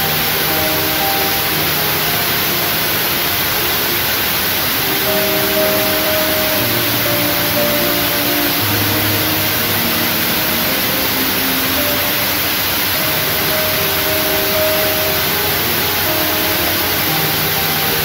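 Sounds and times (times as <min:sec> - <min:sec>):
soft held music notes: 0:00.0 - 0:18.0
steady hiss: 0:00.0 - 0:18.0.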